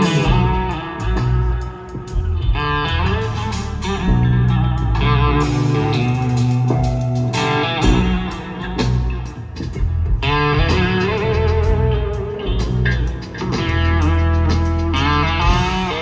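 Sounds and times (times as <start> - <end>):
drums: 0.0 - 16.0
electric bass guitar: 0.0 - 16.0
electric guitar lead: 0.0 - 16.0.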